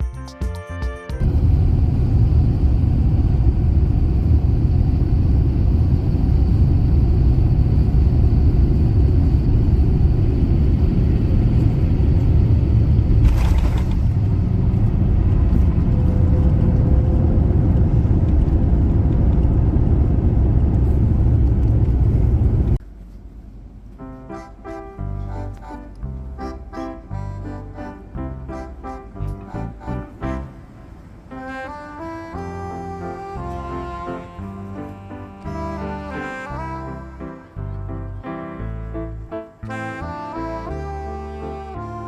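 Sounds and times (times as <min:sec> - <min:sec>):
airliner engines and airflow rumble: 0:01.2 - 0:42.0.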